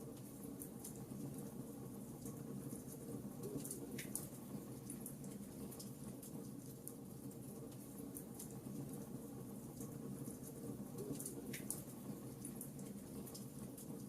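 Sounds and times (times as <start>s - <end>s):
wood fire crackling and popping: 2.2s - 14.0s.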